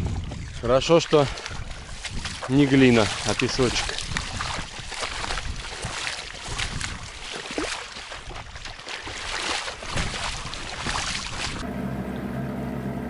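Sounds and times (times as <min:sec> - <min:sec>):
water splashing around a boat: 0:00.0 - 0:13.0.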